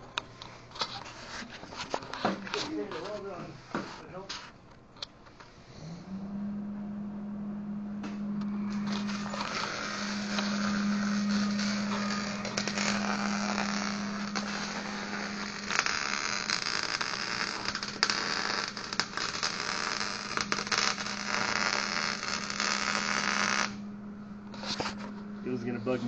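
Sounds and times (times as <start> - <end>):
low steady hum: 0.0 - 26.0
arc welding crackling sizzle: 0.8 - 4.3, 8.0 - 26.0.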